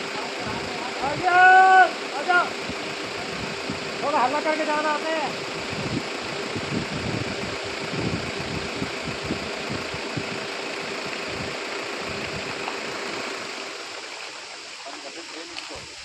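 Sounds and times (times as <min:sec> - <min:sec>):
vehicle engine running slowly: 0:00.0 - 0:16.0.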